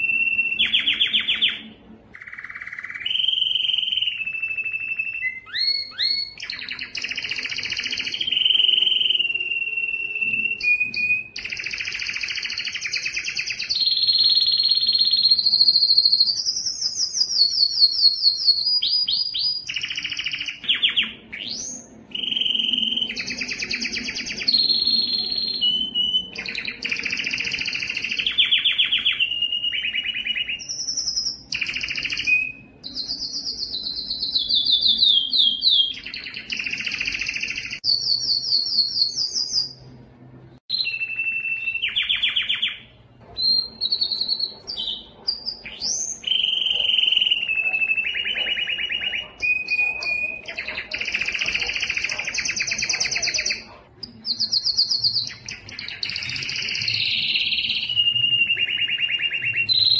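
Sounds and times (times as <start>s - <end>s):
canary singing trills: 0.0s - 40.0s, 40.6s - 59.9s.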